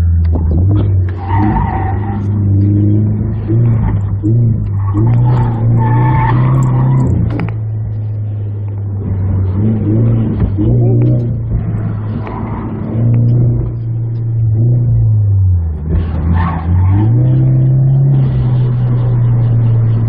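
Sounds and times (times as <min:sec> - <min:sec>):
car engine under hard driving: 0:00.0 - 0:20.0.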